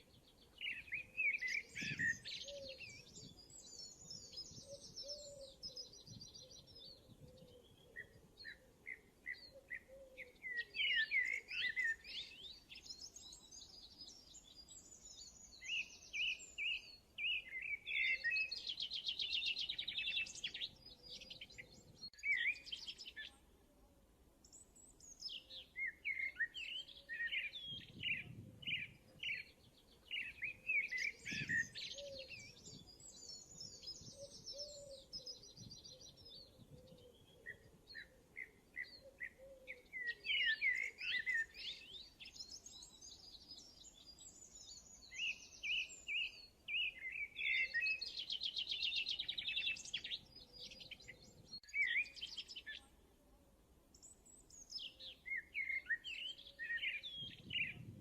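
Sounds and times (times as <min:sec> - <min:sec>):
birds chirping and singing: 0:00.0 - 0:23.4, 0:24.5 - 0:52.9, 0:53.9 - 0:58.0.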